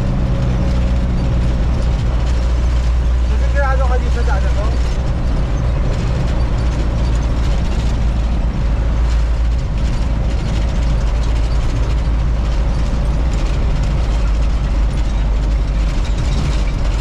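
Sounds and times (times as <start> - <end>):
truck engine low rumble: 0.0 - 17.0.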